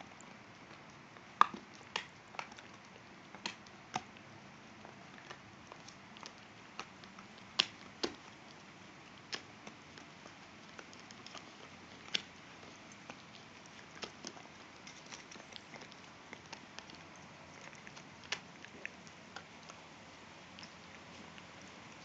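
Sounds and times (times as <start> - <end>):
dogs gnawing on antler: 0.0 - 22.0.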